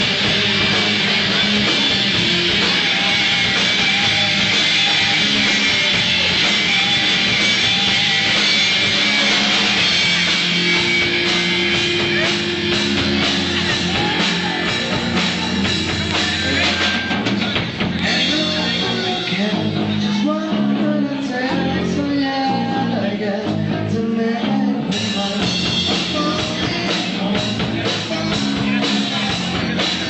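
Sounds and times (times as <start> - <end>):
distorted electric guitars: 0.0 - 30.0
drum kit: 0.0 - 30.0
person singing: 0.0 - 30.0.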